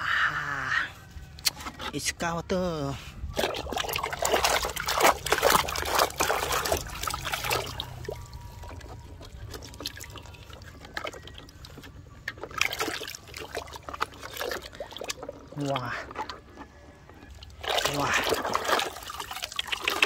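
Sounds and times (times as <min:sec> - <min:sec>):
water trickling over toy trucks: 0:03.4 - 0:20.0.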